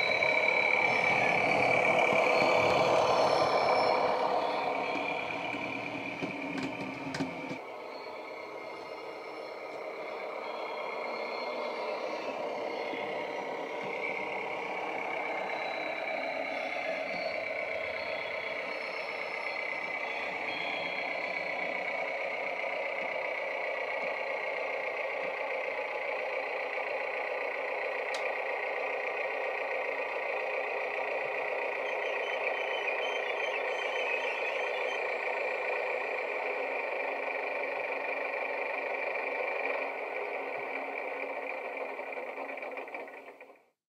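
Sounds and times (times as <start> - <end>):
model train engine sound from speaker: 0.0 - 43.8.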